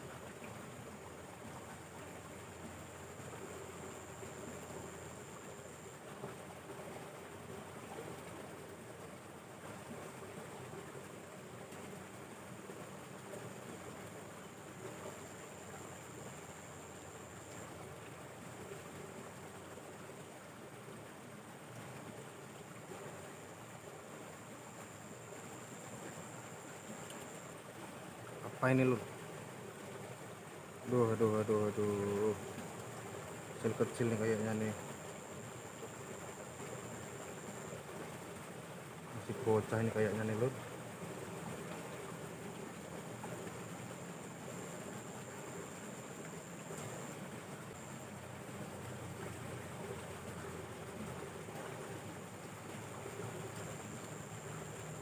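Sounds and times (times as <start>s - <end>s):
faint outdoor background noise: 0.0s - 55.0s
stream water flowing: 0.0s - 55.0s.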